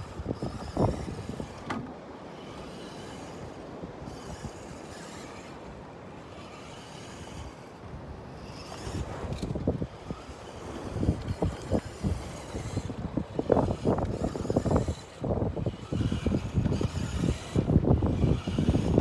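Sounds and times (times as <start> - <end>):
toy truck electric motor and tyres: 0.0 - 19.0.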